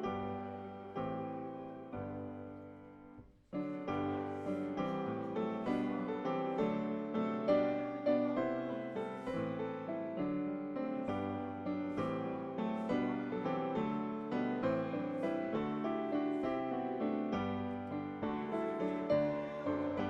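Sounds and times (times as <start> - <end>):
piano playing hymn chords: 0.0 - 20.0.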